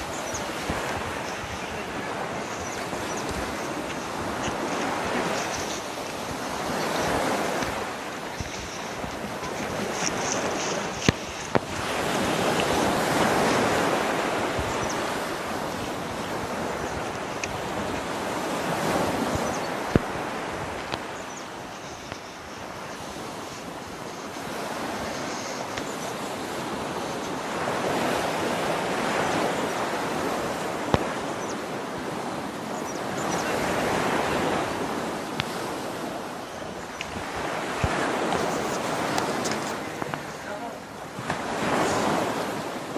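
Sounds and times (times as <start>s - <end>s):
wind gusting across microphone: 0.0s - 42.9s.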